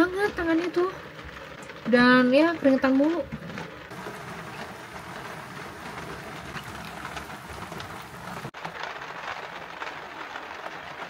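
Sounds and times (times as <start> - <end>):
rain pattering on a van: 0.0 - 11.0.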